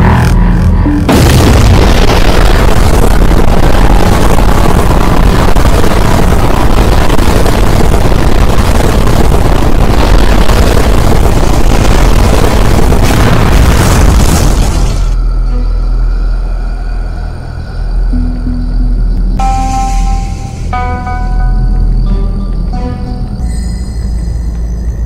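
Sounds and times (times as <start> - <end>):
loud rumbling noise: 0.0 - 25.0.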